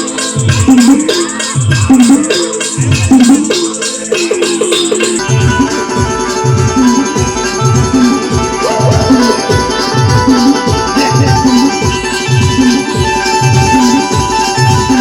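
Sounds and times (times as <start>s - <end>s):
music with heavy bass beat: 0.2s - 15.0s.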